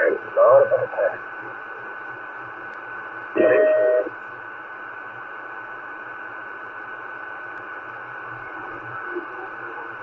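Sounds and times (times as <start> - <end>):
muffled radio static hiss: 0.0 - 10.0.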